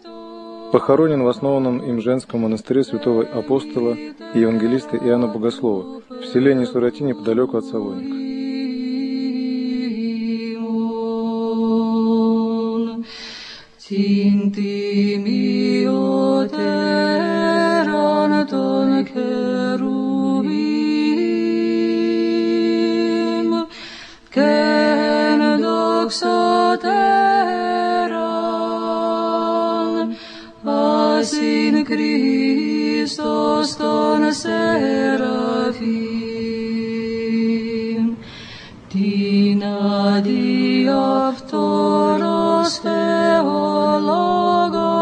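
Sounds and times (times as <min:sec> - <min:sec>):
steady held vocal drone: 0:00.0 - 0:45.0
voices chanting slow melody: 0:00.0 - 0:45.0.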